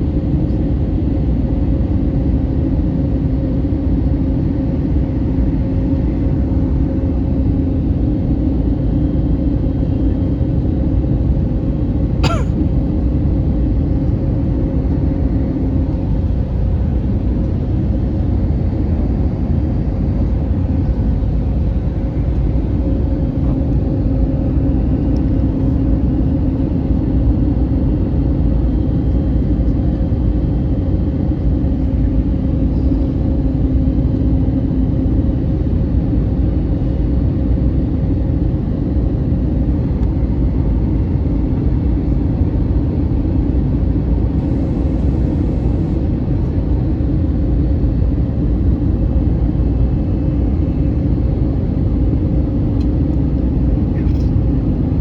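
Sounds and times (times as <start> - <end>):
airliner cabin rumble: 0.0 - 55.0.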